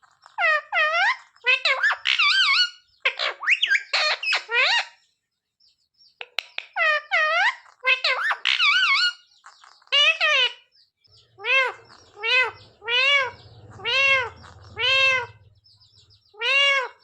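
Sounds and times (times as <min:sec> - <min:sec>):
parrot calling: 0:00.1 - 0:05.0, 0:06.4 - 0:17.0.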